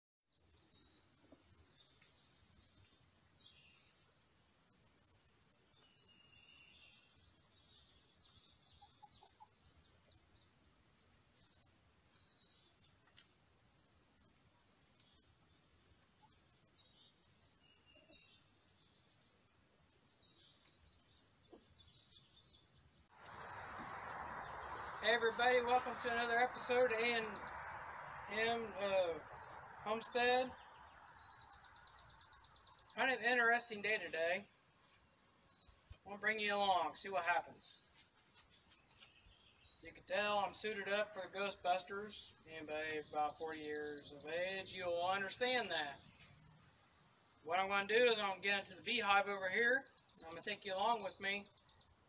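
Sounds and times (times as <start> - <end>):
insects droning: 0.3 - 37.6, 38.9 - 52.0
bird chirps: 0.3 - 52.0.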